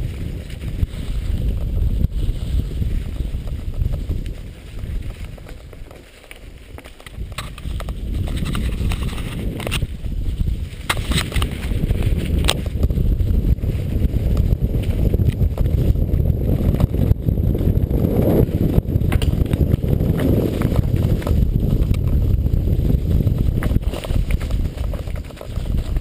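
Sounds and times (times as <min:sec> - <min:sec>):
rumble of travel over rough ground: 0:00.0 - 0:26.0
wind buffeting microphone: 0:00.0 - 0:26.0.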